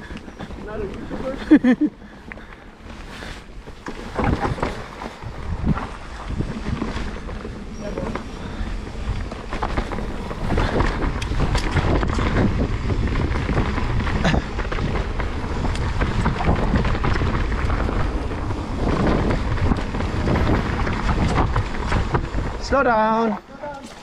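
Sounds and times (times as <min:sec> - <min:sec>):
bike knocks and rattles: 0:00.0 - 0:24.0
tyres rumbling on dirt: 0:00.0 - 0:24.0
wind buffeting microphone: 0:00.0 - 0:24.0.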